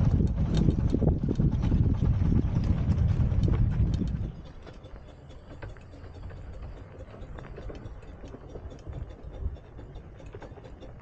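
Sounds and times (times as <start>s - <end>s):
low train rumble: 0.0s - 11.0s
train wheels clicking: 0.0s - 11.0s.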